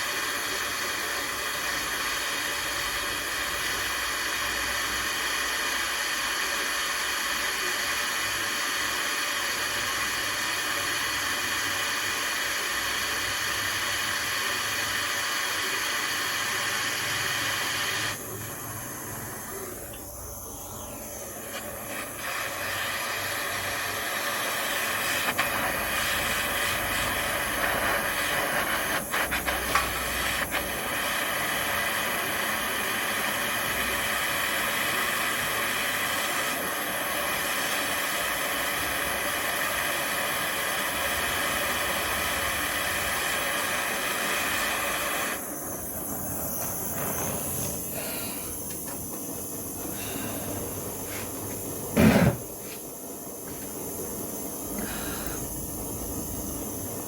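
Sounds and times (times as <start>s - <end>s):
gas flame hissing: 0.0s - 57.0s.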